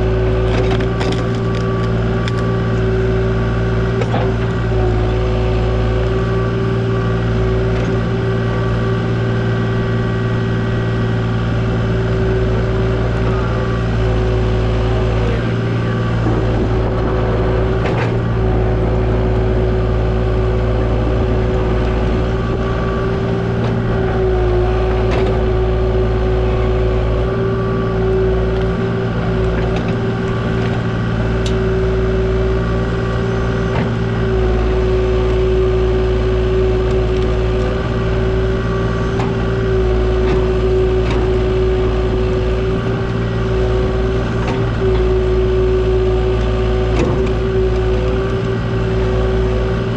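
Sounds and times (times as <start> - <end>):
diesel engine running: 0.0 - 49.9
steady whine: 0.0 - 49.9.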